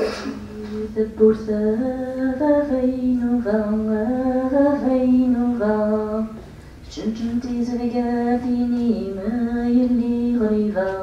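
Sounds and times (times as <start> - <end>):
woman singing over speakers: 0.0 - 11.0.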